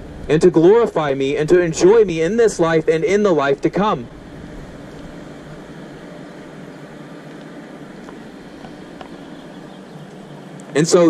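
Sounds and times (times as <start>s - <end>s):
city traffic hum: 0.0s - 11.0s.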